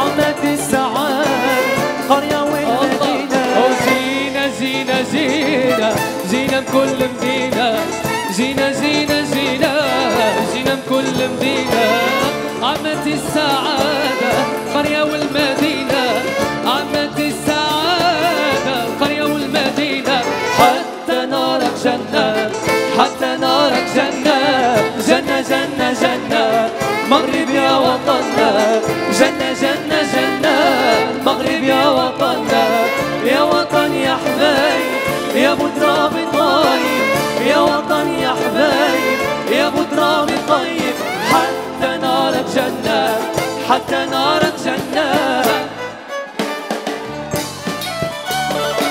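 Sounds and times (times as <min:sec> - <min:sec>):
men singing into microphones: 0:00.0 - 0:46.2
pop backing music: 0:00.0 - 0:48.9.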